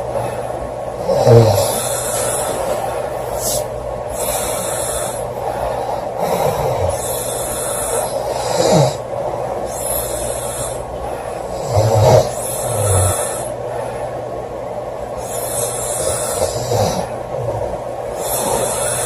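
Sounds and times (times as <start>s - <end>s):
hissing breaths: 0.0s - 19.0s
steady background noise: 0.0s - 19.0s
girl snoring: 1.0s - 9.0s, 9.7s - 13.6s, 15.2s - 19.0s.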